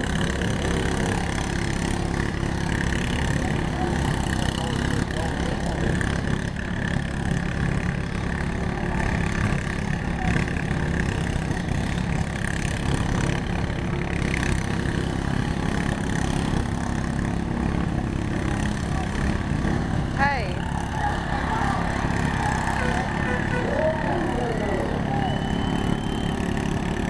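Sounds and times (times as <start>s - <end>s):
lawn mower engines running: 0.0s - 27.0s.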